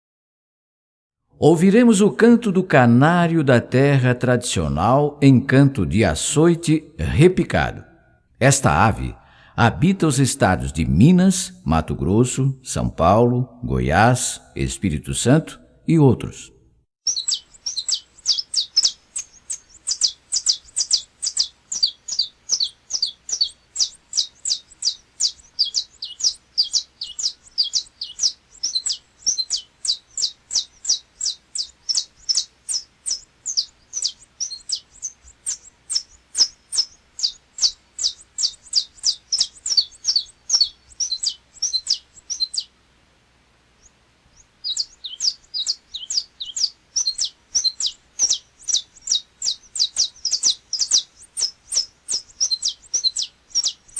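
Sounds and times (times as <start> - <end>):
finch singing rapid high notes: 1.4 - 16.4, 17.1 - 42.7, 44.6 - 53.9.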